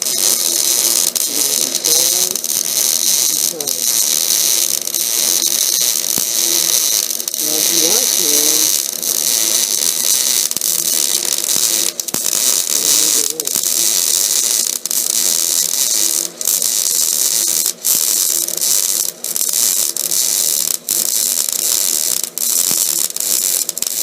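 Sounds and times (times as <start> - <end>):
welding arc crackling and hissing: 0.0 - 24.0.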